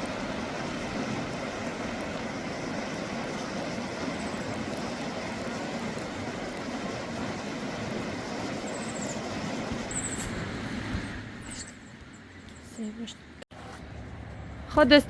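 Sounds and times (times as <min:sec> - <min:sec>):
rain: 0:00.0 - 0:13.4.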